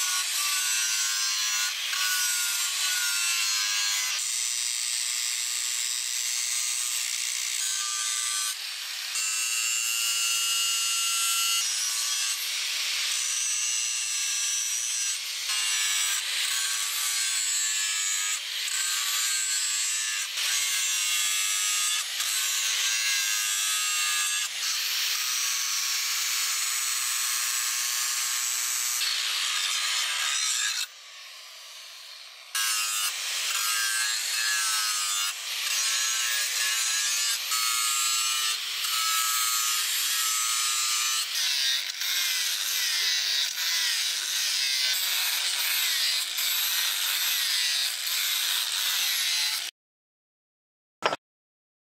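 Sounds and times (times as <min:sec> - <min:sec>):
angle grinder grinding steel: 0:00.0 - 0:49.7.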